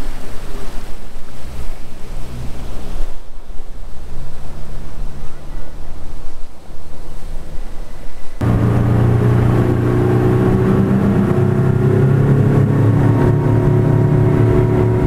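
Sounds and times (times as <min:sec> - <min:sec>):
outboard motor droning: 0:00.0 - 0:03.2, 0:03.8 - 0:15.0
water lapping: 0:00.0 - 0:15.0
wind buffeting microphone: 0:00.0 - 0:15.0.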